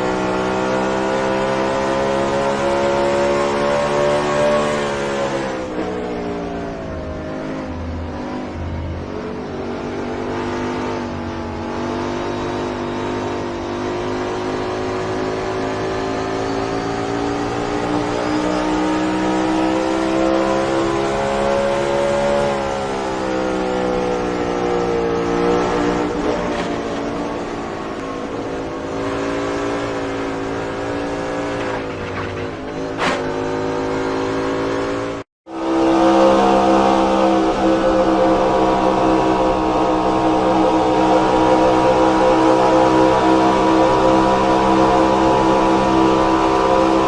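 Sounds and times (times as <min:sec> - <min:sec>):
race car engine at high revs: 0:00.0 - 0:47.0.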